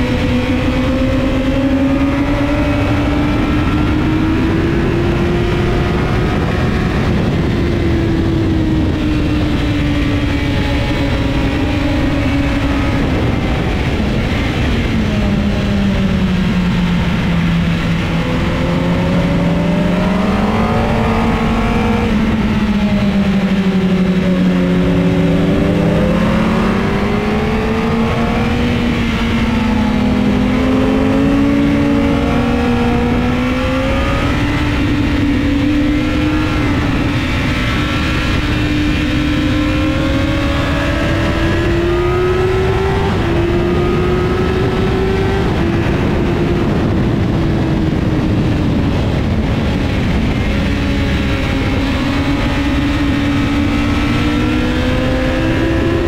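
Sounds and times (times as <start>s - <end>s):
engine running: 0.0s - 56.0s
heavy low rumble: 2.6s - 55.0s.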